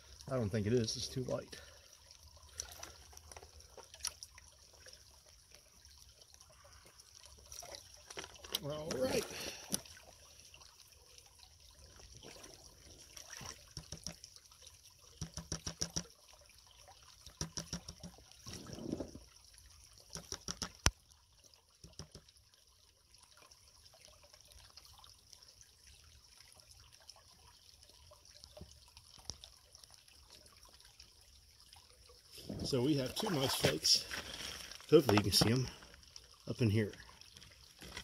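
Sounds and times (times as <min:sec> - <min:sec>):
water sloshing in a pan: 0:00.0 - 0:38.0.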